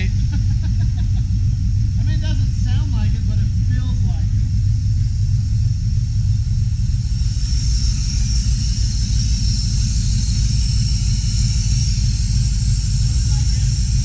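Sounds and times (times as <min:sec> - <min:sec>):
engine idling deep rumble: 0:00.0 - 0:14.0.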